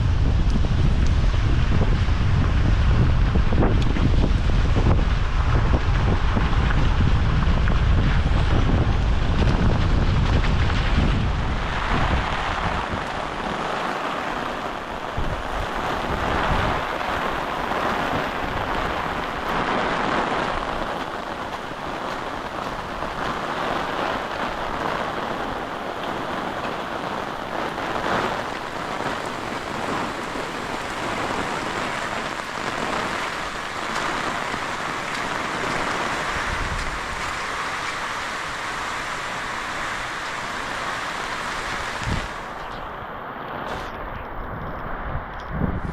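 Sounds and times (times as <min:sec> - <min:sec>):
heavy rain and wind: 0:00.0 - 0:45.9
wind gusts buffeting microphone: 0:00.0 - 0:45.9.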